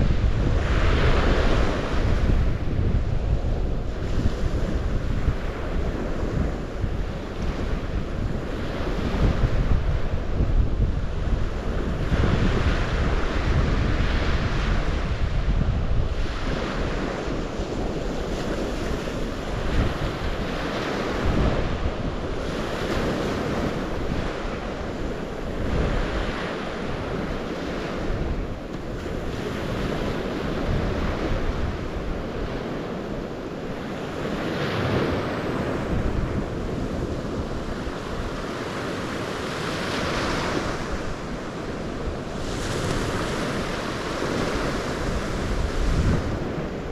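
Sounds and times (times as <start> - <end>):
waves washing on shore: 0.0 - 46.9
wind buffeting microphone: 0.0 - 46.9.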